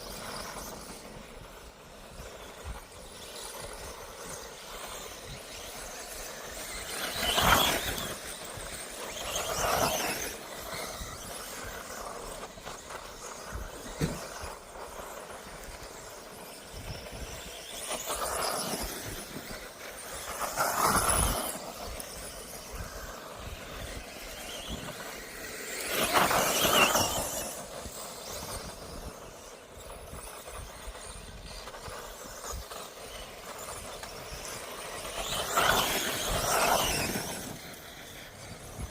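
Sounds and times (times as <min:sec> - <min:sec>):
rc buggies whining past: 0:00.0 - 0:38.9.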